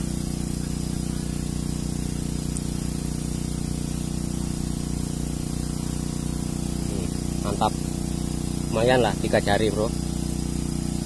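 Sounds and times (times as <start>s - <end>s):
constant hiss: 0.0s - 11.0s
motor drone: 0.0s - 11.0s.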